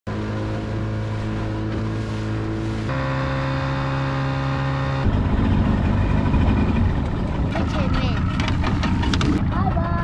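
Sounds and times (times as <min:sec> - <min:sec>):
outboard motor droning: 0:00.1 - 0:10.0
water rushing along hull: 0:00.1 - 0:10.0.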